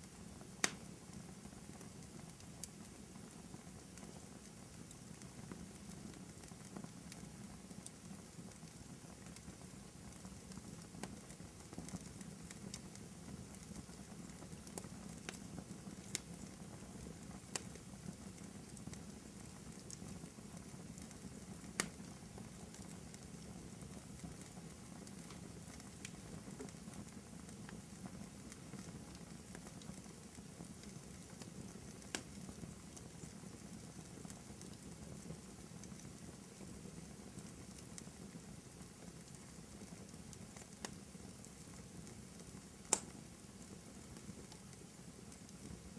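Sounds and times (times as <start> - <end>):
logs crackling and popping: 0.0 - 45.9.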